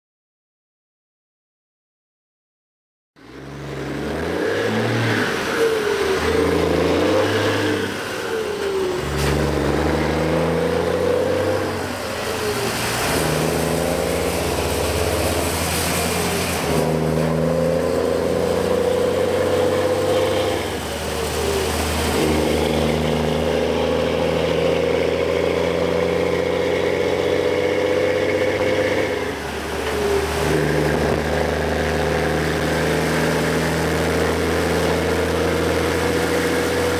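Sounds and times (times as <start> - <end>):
truck diesel engine running: 3.2 - 36.9.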